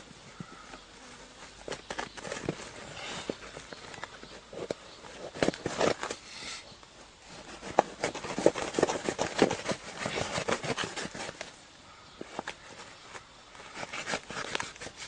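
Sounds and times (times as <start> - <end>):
hide rustling and scraping: 0.0 - 6.2, 7.0 - 11.6, 12.2 - 15.0.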